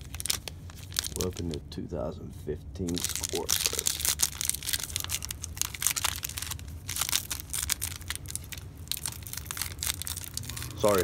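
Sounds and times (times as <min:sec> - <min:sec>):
foil wrapper tearing and crinkling: 0:00.0 - 0:01.6, 0:02.9 - 0:11.0.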